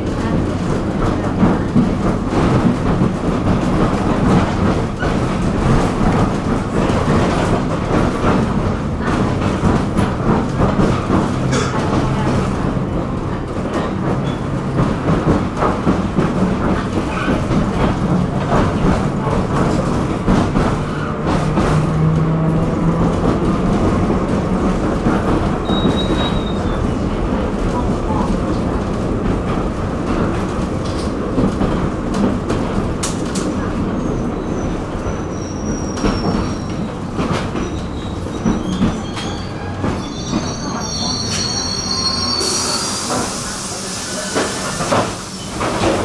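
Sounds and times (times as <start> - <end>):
tram rumbling on rails: 0.0 - 46.0
wheels clicking on track: 0.0 - 46.0.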